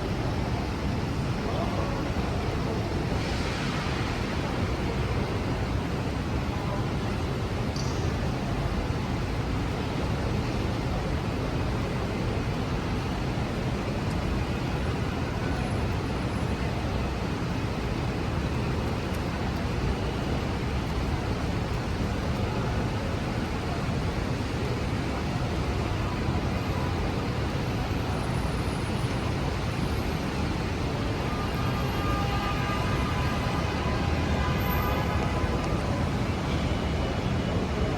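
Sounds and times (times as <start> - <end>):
traffic on wet roads: 0.0 - 37.9
faint engine whine: 0.1 - 37.9.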